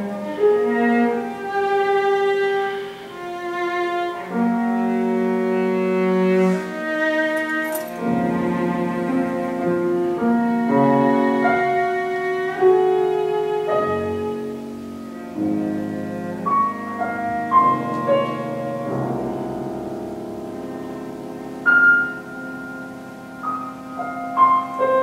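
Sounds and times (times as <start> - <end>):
cello bowed notes: 0.0 - 25.0
piano chords and notes: 0.0 - 25.0.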